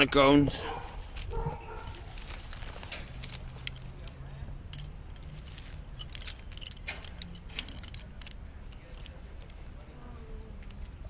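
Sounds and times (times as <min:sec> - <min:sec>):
metallic jingling: 0:00.6 - 0:09.7.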